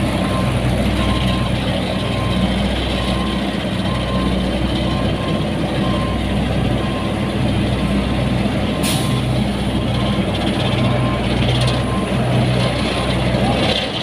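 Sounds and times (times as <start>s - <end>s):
warning alarm beeping: 0.0s - 8.0s, 8.9s - 12.3s
diesel engine running: 0.0s - 14.0s.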